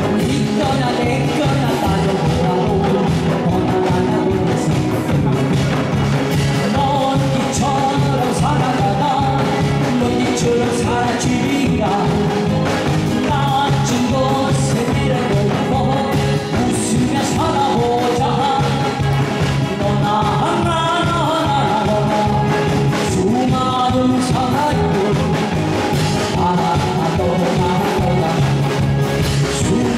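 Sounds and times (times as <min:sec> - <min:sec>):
backing track with steady beat: 0:00.0 - 0:29.9
man singing: 0:00.0 - 0:29.9.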